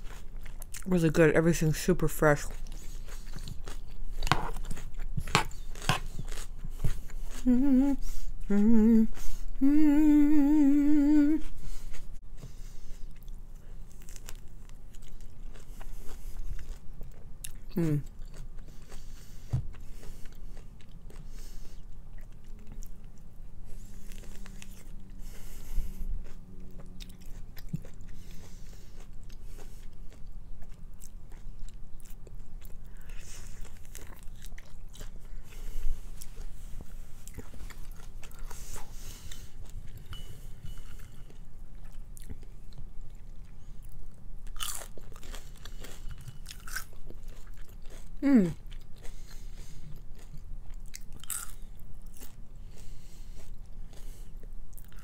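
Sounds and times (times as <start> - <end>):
biting and chewing food: 0.0 - 8.5, 11.5 - 55.0.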